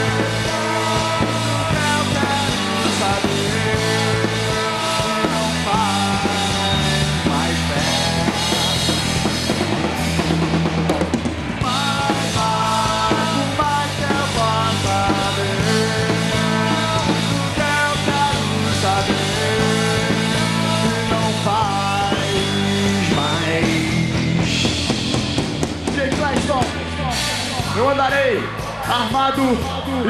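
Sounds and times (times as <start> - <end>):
drum kit: 0.0 - 30.0
rock band playing live: 0.0 - 30.0.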